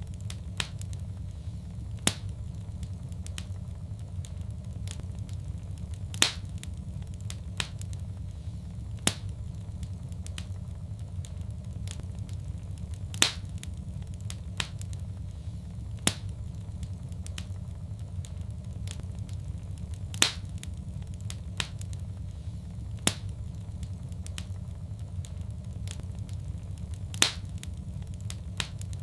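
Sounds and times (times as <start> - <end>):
fire crackling: 0.0 - 29.0
fire popping: 0.0 - 29.0
low rumble of fire: 0.0 - 29.0.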